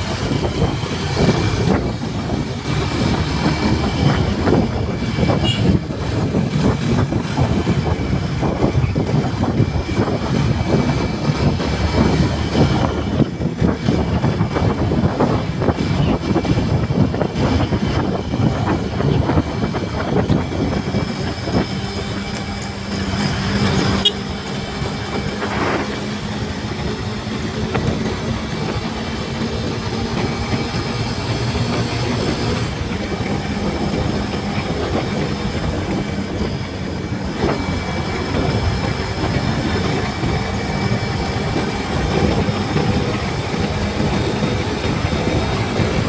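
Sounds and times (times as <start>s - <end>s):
motorcycle engine: 0.0s - 46.0s
road noise: 0.0s - 46.0s
wind rushing: 0.0s - 46.0s.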